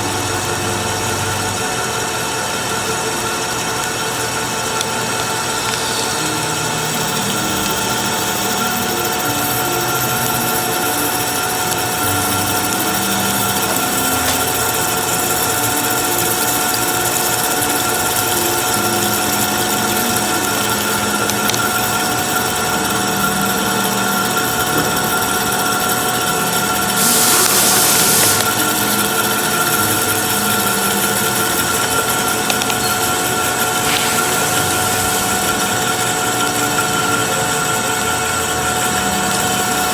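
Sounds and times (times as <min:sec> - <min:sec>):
machine tool running with whine: 0:00.0 - 0:39.9.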